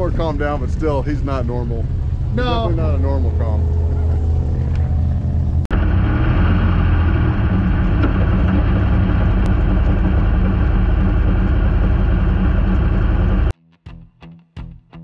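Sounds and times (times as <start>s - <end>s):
race car engine running: 0.0s - 13.5s.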